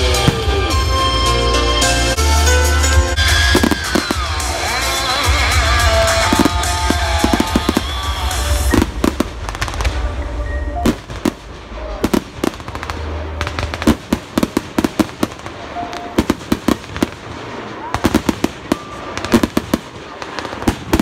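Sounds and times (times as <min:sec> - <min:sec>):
fireworks bangs and crackles: 0:00.0 - 0:01.3, 0:02.9 - 0:21.0.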